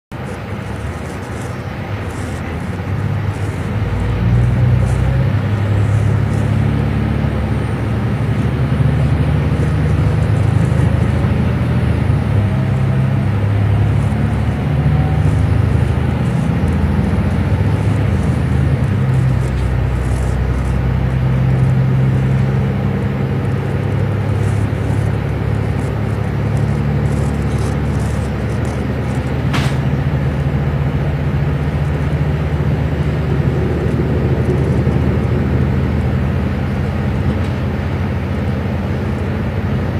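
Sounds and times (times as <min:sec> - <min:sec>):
train rumbling: 0:00.1 - 0:39.9.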